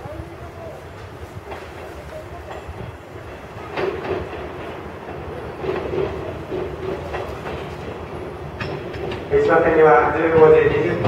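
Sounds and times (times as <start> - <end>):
train rumble: 0.0 - 11.0
train wheels clacking: 0.9 - 11.0.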